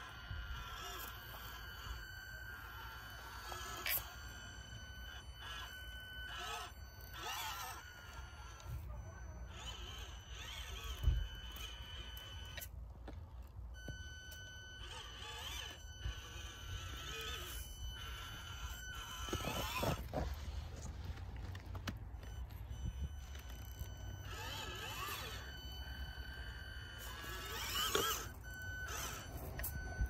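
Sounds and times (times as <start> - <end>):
small electric motor whining: 0.0 - 30.0.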